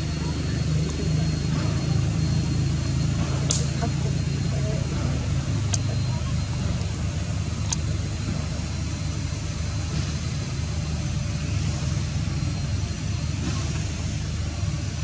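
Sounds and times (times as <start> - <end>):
engine idling rumble: 0.0 - 15.0.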